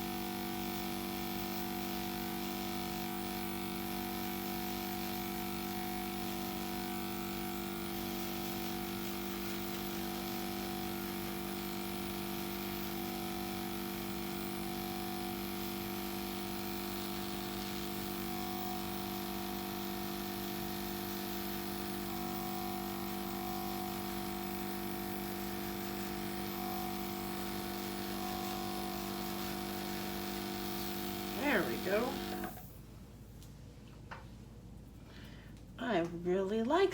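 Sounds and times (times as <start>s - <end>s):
small compressor buzzing hum: 0.0s - 36.9s.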